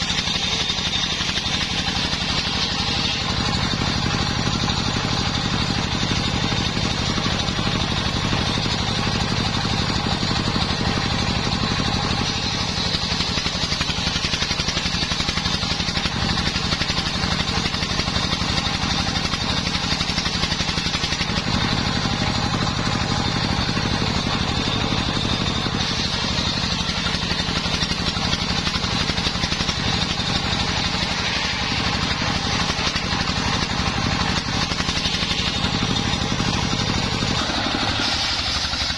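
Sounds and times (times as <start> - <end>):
saw blade cutting log: 0.0 - 38.9
saw engine running: 0.0 - 38.9.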